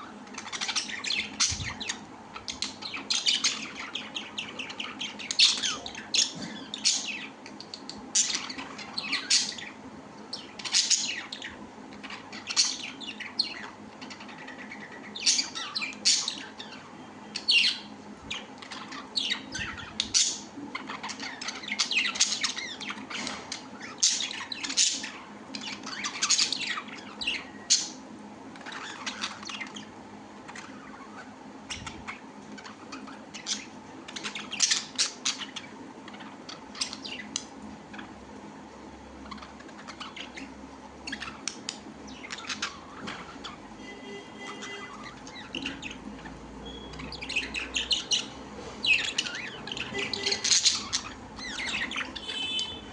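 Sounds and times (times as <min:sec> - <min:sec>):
birds chirping and squawking: 0:00.0 - 0:52.9.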